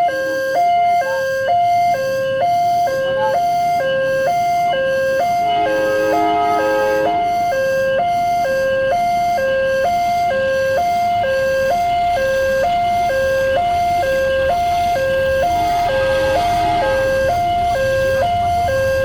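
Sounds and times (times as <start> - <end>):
level crossing two-tone siren: 0.0 - 19.0.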